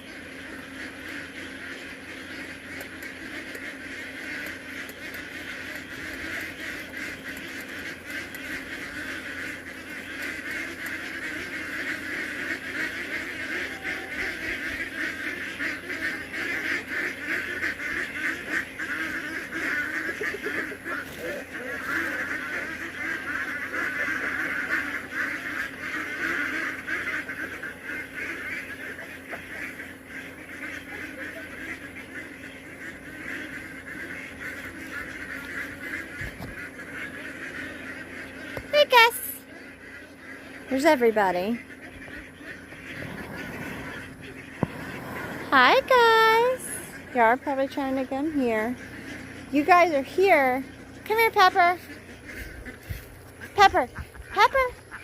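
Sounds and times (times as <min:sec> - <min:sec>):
ducks quacking: 0:00.0 - 0:55.0.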